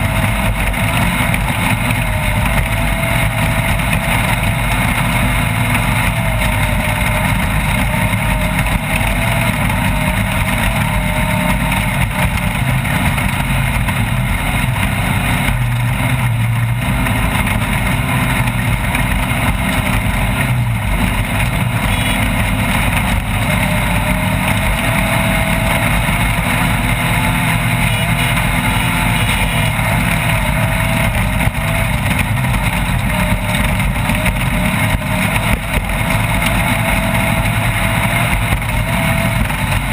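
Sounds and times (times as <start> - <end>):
race vehicle engine running: 0.0 - 39.9.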